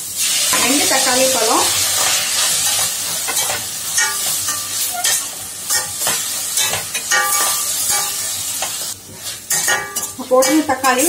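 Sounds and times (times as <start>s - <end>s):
vegetables sizzling in hot oil: 0.0s - 11.0s
metal spoon scraping and knocking pan: 2.0s - 11.0s.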